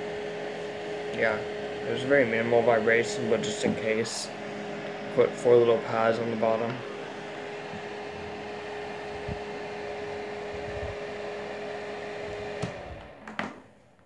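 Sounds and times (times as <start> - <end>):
fan running with hum: 0.0 - 14.0.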